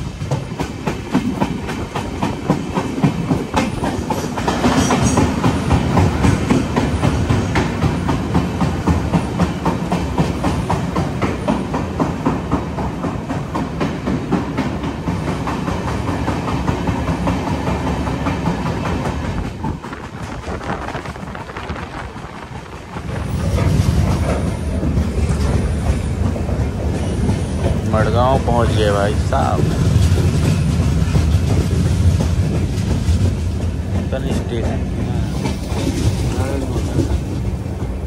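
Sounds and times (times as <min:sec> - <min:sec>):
train wheels clattering over rail joints: 0:00.0 - 0:38.0.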